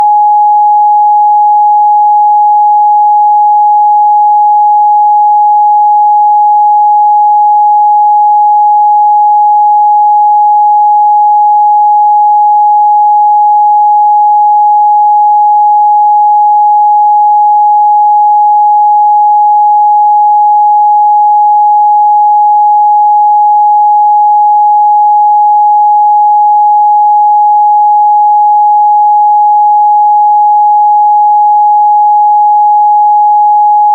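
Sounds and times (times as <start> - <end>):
sine-wave test tone: 0.0 - 33.9.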